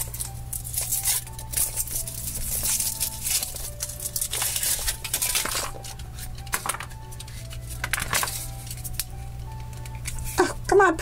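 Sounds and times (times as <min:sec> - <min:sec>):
foil wrapper crinkling and tearing: 0:00.0 - 0:10.7.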